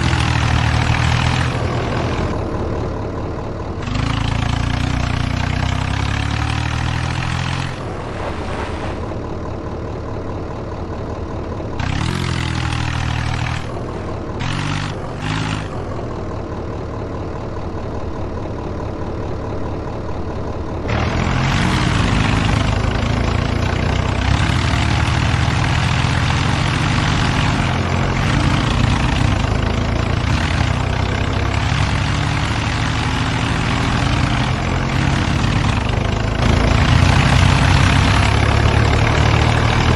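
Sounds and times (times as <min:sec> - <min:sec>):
diesel tractor engines running: 0:00.0 - 0:39.9.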